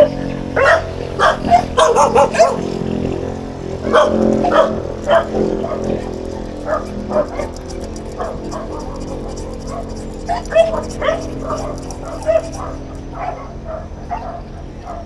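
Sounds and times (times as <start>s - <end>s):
low motor hum: 0.0s - 15.0s
dog barking sharply: 0.6s - 2.7s, 3.9s - 14.5s.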